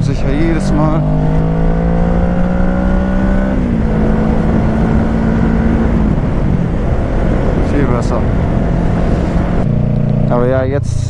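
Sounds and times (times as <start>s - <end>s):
wind rush: 0.0s - 9.9s
motorcycle engine accelerating: 0.0s - 11.0s.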